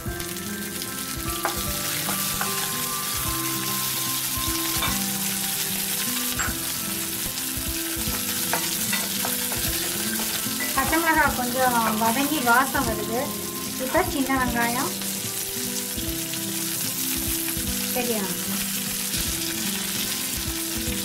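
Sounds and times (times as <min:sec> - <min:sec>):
chillies sizzling in hot oil: 0:00.0 - 0:21.0.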